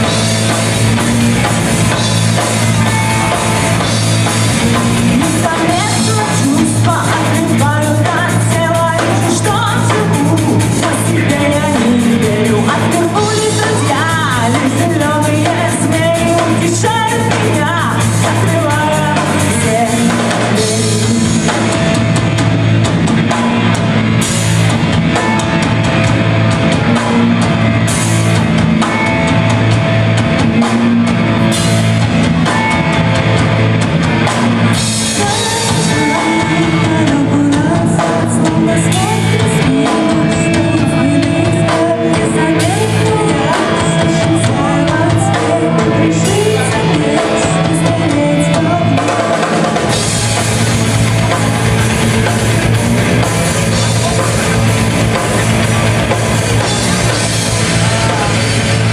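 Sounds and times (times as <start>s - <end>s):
bass guitar: 0.0s - 58.9s
distorted guitars: 0.0s - 58.9s
drum kit: 0.0s - 58.9s.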